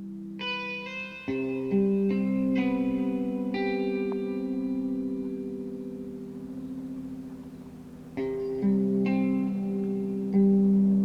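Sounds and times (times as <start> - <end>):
guitar with reverb: 0.0 - 11.0.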